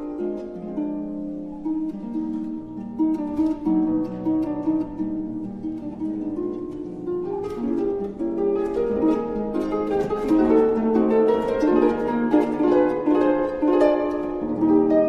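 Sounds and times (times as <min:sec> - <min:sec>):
plucked string instrumental music: 0:00.0 - 0:15.0.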